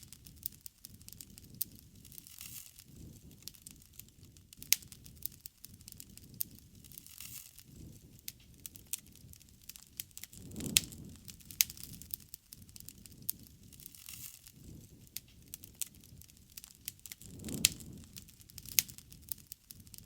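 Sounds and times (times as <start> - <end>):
rushing of flames: 0.0 - 20.0
wood fire crackling and popping: 0.0 - 20.0.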